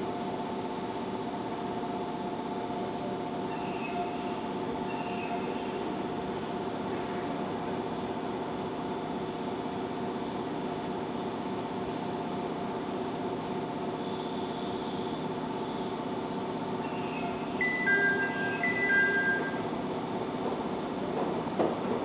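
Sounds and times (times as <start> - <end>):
electric train equipment humming: 0.0 - 22.0.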